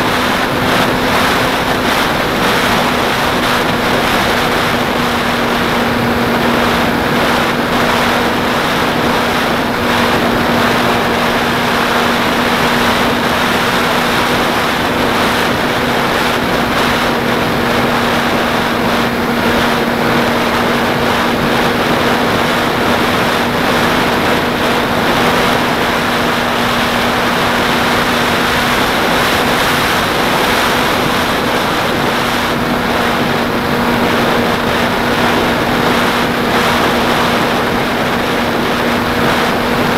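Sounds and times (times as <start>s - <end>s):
loud wind rush: 0.0s - 39.9s
model plane propeller drone: 0.0s - 39.9s.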